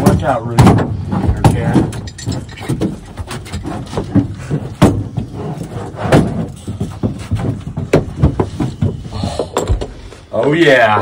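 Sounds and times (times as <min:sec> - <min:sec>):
knocks and thumps in truck bed: 0:00.0 - 0:10.0.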